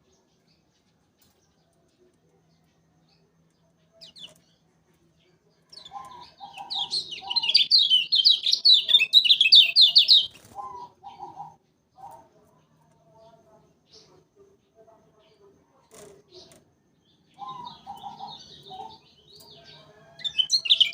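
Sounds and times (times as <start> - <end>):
bird chirping and twittering song: 0.0 - 20.9.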